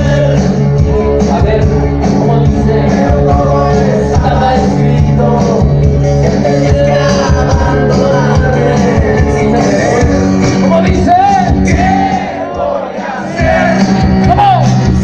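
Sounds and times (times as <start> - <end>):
loud dance music with heavy bass: 0.0 - 15.0.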